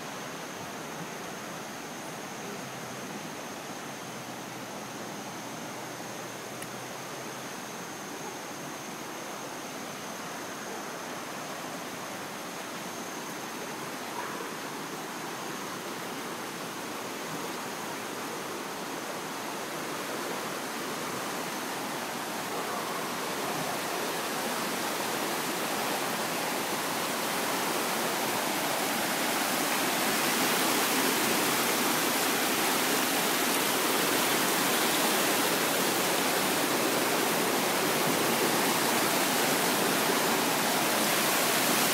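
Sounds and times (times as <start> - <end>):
rushing floodwater: 0.0 - 41.9.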